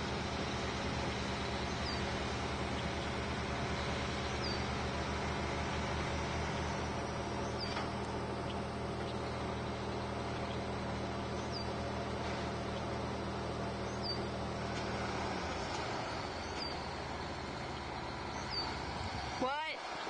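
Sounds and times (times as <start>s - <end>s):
truck engine droning under load: 0.0s - 20.0s.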